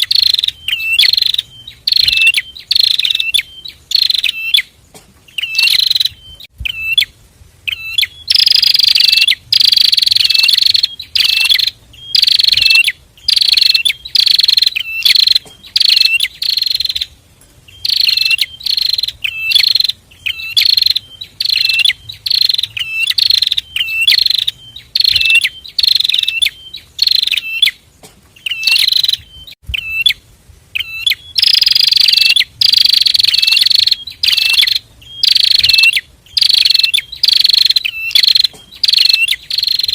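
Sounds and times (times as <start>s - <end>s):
bird call notes: 0.0s - 39.9s
birds singing buzzy phrases: 0.0s - 39.9s.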